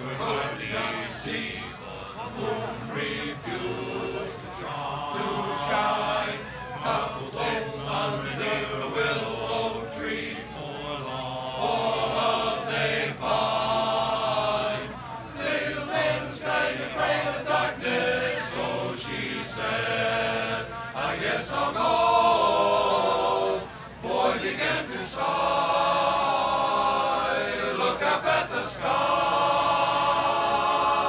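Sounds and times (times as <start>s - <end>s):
men's chorus singing in harmony: 0.0s - 31.0s.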